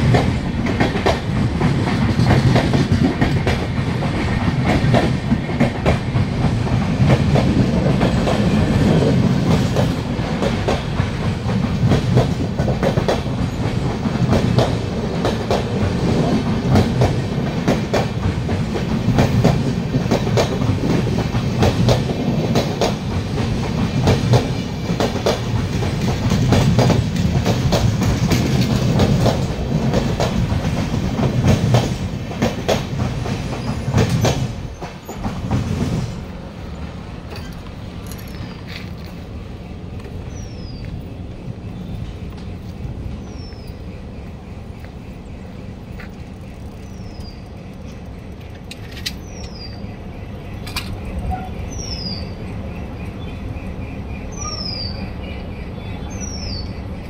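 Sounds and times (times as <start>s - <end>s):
wheels clicking over rail joints: 0.0s - 53.2s
train coaches rumbling past: 0.0s - 57.0s.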